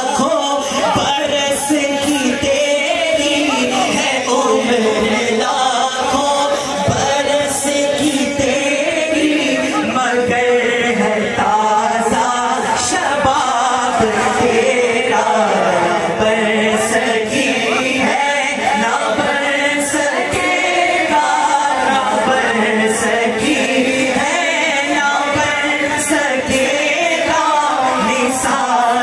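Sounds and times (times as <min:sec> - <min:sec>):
man singing through microphone: 0:00.0 - 0:29.0.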